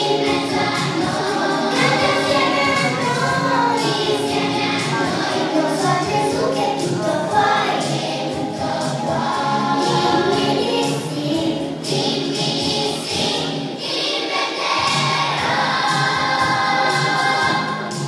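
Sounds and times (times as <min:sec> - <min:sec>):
children singing: 0:00.0 - 0:18.0
musical accompaniment: 0:00.0 - 0:18.0.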